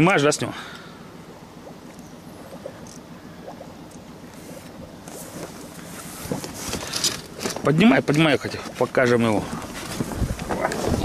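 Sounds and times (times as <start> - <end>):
water lapping against a boat: 0.5 - 11.0.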